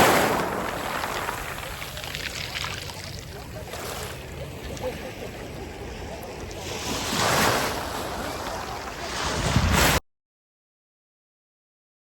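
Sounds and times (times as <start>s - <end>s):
sea waves washing ashore: 0.0s - 10.0s.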